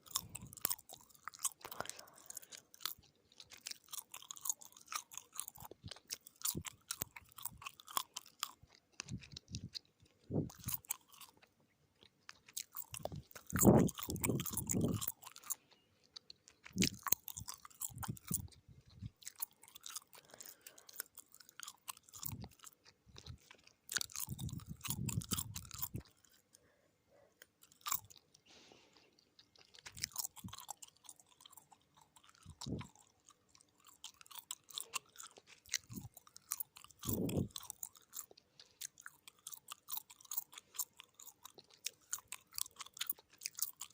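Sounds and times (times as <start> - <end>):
gum chewing smacks: 0.0 - 26.6, 27.2 - 43.9.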